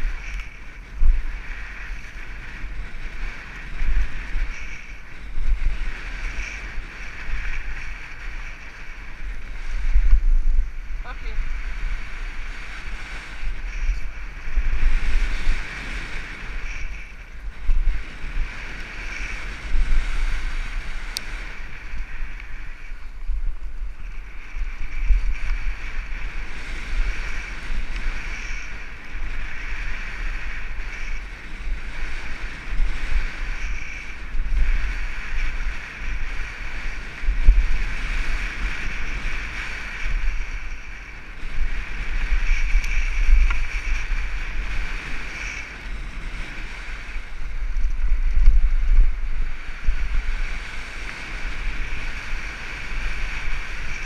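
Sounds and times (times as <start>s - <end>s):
mountain bike rumbling and rattling: 0.0s - 54.0s
wind buffeting microphone: 0.0s - 54.0s.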